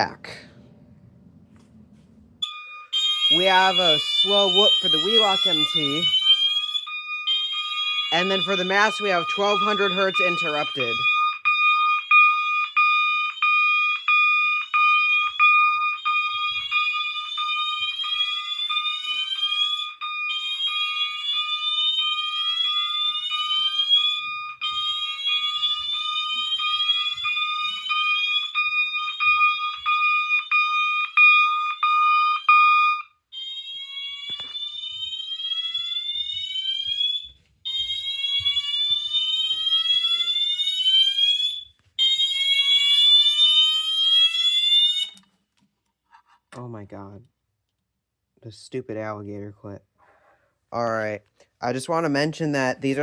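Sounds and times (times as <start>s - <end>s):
pulsing interrupted alarm tone: 2.4s - 45.2s
fire alarm whoop tone: 2.4s - 45.4s.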